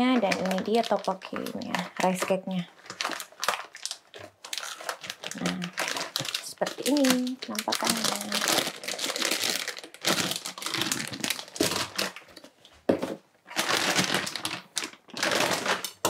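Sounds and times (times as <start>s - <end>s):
plastic packets crinkling: 0.0s - 16.0s.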